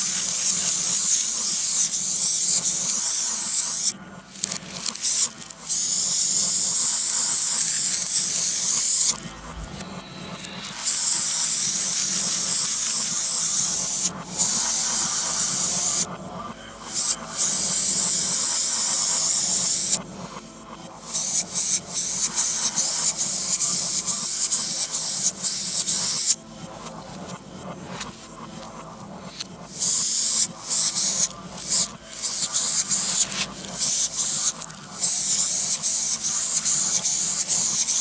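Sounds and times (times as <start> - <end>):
aerosol spray can hissing: 0.0 - 9.2, 10.2 - 16.1, 16.9 - 20.0, 21.1 - 26.4, 29.7 - 38.0.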